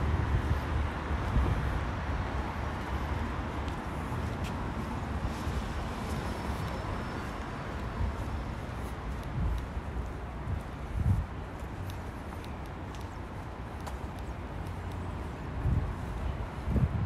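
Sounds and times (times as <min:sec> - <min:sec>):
traffic hiss and rumble: 0:00.0 - 0:17.0.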